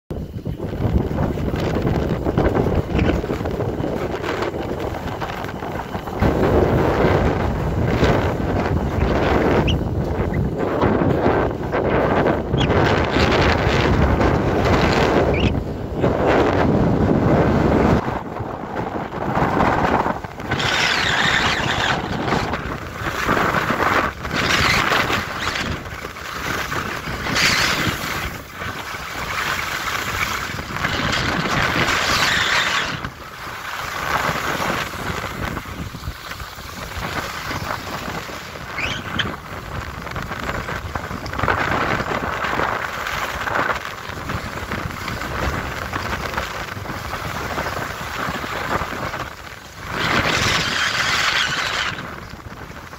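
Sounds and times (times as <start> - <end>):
skis scraping over snow: 0.1 - 52.9
wind buffeting microphone: 0.1 - 52.9.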